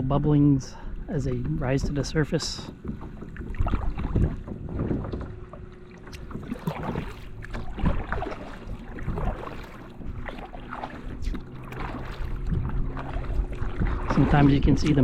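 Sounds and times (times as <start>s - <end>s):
water lapping against a kayak: 0.0s - 15.0s.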